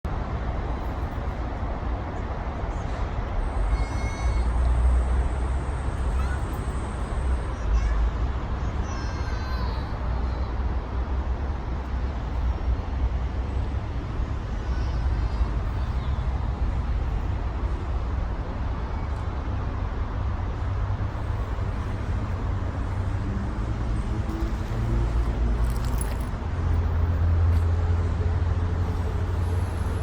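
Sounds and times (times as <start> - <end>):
road traffic rumble: 0.1 - 30.0.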